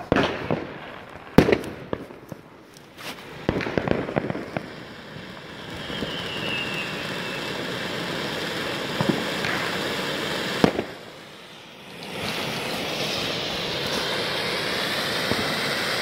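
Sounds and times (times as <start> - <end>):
firework bang: 0.0 - 2.1, 3.0 - 7.7, 8.9 - 15.9
crackling pops: 0.0 - 13.2
rushing hiss of sparks: 2.7 - 16.0.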